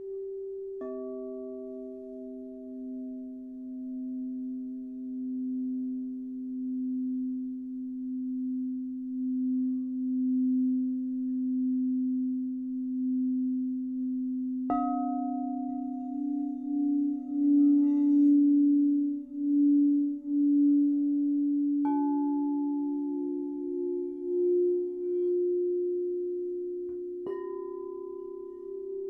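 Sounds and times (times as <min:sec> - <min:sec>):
singing bowl ringing: 0:00.0 - 0:29.0.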